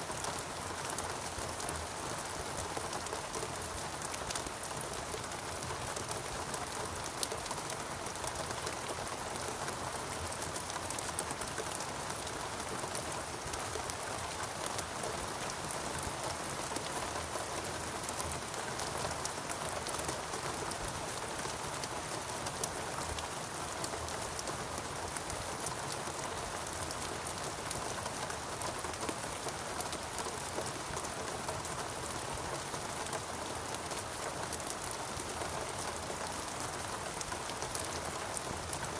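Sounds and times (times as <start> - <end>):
rain pattering on foliage: 0.0 - 38.9.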